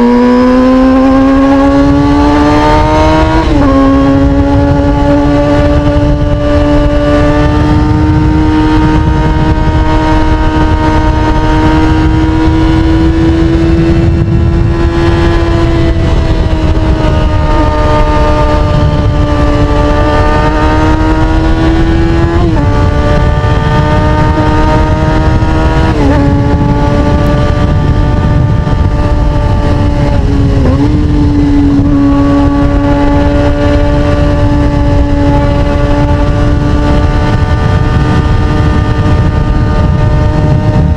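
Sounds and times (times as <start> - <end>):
motorcycle engine at high revs: 0.0 - 40.9
wind noise on microphone: 0.0 - 40.9.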